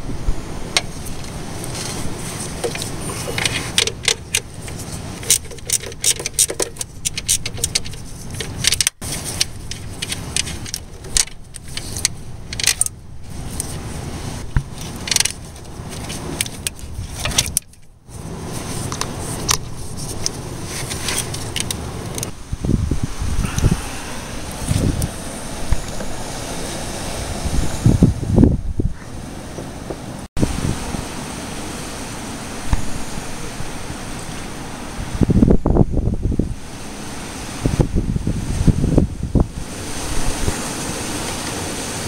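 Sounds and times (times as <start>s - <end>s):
low background rumble: 0.0s - 36.9s.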